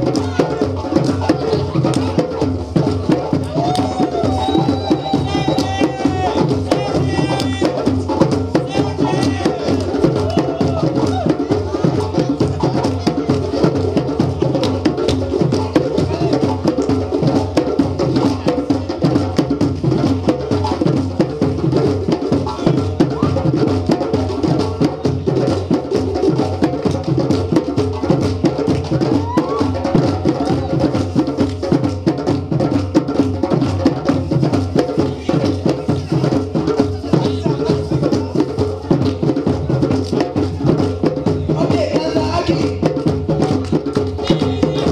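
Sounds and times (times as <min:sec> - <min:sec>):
djembe drum ensemble playing: 0:00.0 - 0:44.9.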